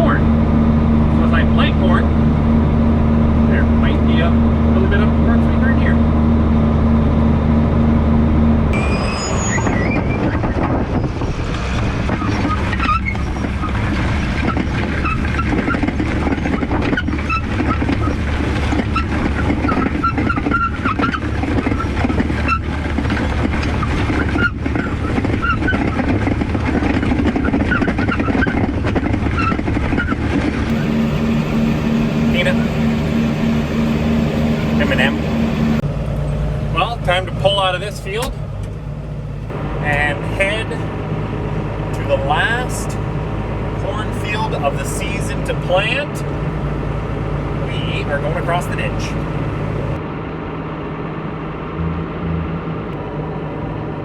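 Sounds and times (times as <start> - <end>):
tractor engine running: 0.0 - 9.0, 10.3 - 50.0.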